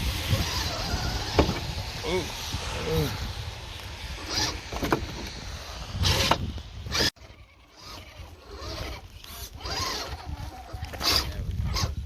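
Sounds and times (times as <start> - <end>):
small electric motors whirring: 0.0 - 12.0.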